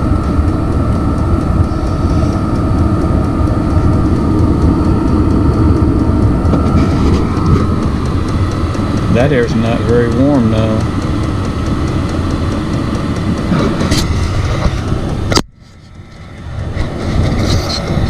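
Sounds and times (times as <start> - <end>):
heater blower rushing air: 0.0 - 18.0
thin whine: 0.0 - 18.0.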